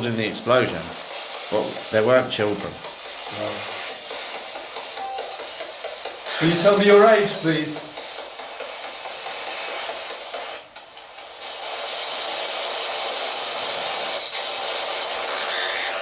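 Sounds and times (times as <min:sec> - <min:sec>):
static hiss: 0:00.0 - 0:16.0.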